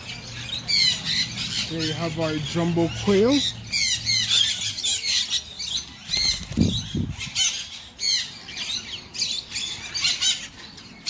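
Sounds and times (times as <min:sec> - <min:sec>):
small birds chirping and squawking: 0:00.0 - 0:11.0.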